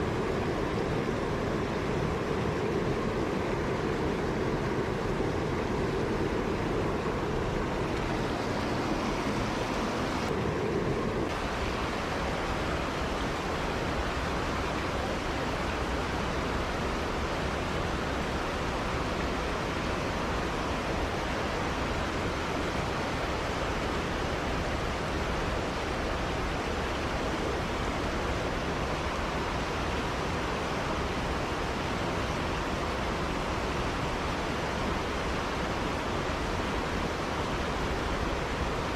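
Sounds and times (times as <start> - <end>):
stream water rushing over rocks: 0.0 - 38.9.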